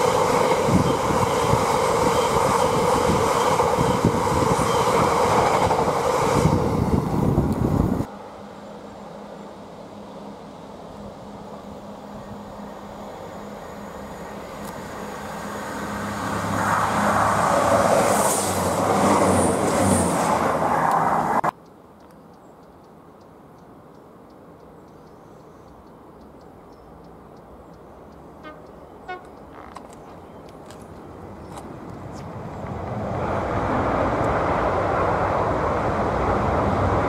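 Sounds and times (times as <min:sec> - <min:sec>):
train passing: 0:00.0 - 0:21.5, 0:25.8 - 0:37.0
faint outdoor background: 0:00.0 - 0:37.0.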